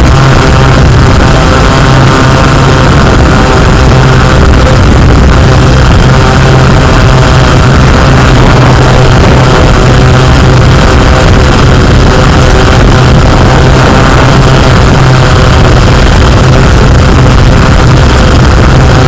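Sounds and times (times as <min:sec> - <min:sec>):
drone motors buzzing: 0:00.0 - 0:19.0.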